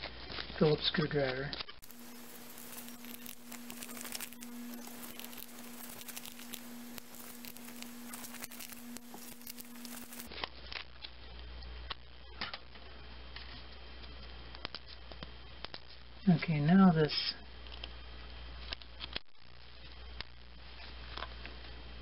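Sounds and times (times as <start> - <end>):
electrical hum: 1.6 - 22.0.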